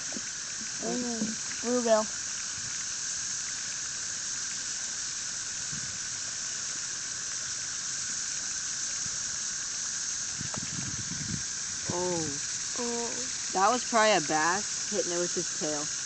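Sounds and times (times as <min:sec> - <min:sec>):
cicadas droning: 0:00.0 - 0:16.0.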